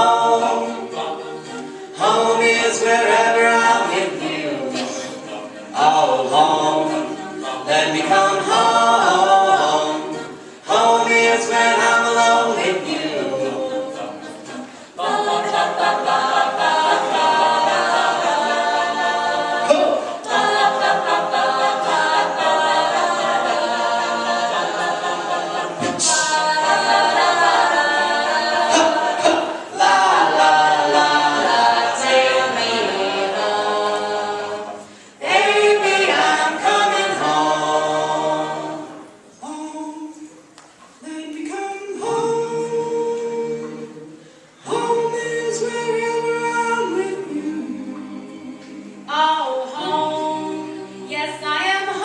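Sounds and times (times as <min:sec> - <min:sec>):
vocal group singing in harmony: 0:00.0 - 0:52.0.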